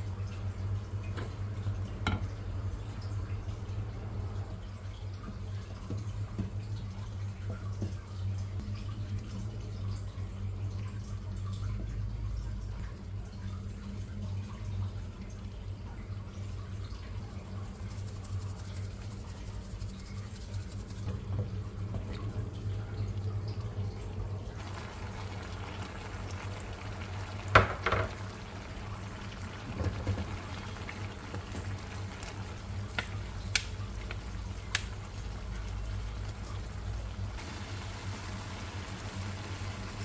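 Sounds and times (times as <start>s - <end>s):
water running: 0.0s - 40.0s.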